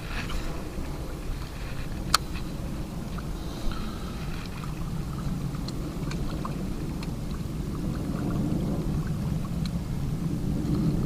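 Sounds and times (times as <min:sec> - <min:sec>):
faint ticks: 0:00.0 - 0:11.0
small waves lapping: 0:00.0 - 0:11.0
wind rumbling on microphone: 0:00.0 - 0:11.0.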